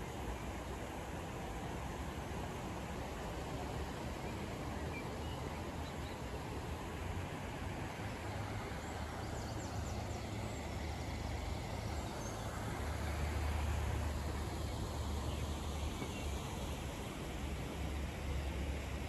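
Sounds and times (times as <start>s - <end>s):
outdoor urban background noise: 0.0s - 19.0s.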